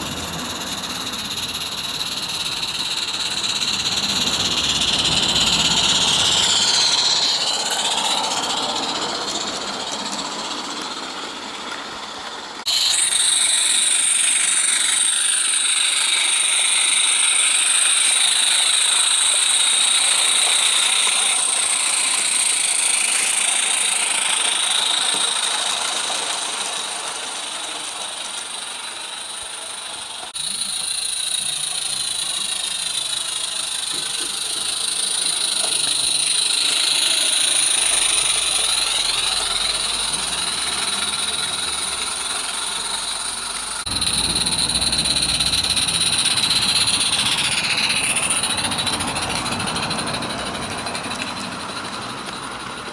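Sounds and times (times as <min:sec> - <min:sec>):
high steam hiss with whistling: 0:00.0 - 0:52.9
model train running noise: 0:00.0 - 0:52.9.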